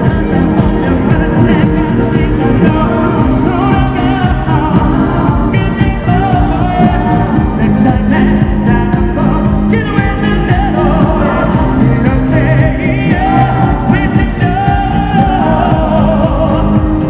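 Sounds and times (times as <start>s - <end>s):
band backing track: 0.0s - 17.0s
man singing through amplification: 0.0s - 17.0s.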